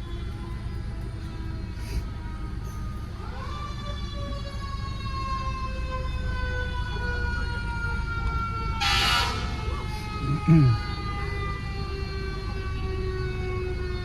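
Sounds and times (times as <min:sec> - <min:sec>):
engine and traffic rumble: 0:00.0 - 0:14.0
fire engine siren: 0:00.0 - 0:14.0.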